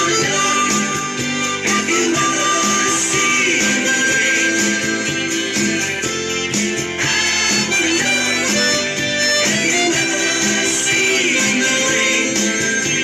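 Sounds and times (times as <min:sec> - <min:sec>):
backing track with guitar: 0:00.0 - 0:13.0
harmonica melody: 0:00.0 - 0:13.0.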